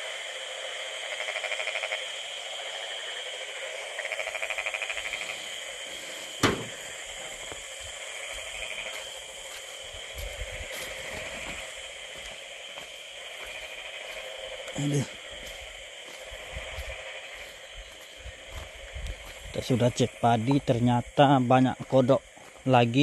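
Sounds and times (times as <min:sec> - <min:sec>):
frogs croaking: 0:00.0 - 0:23.0
steady high-pitched hum: 0:00.0 - 0:23.0.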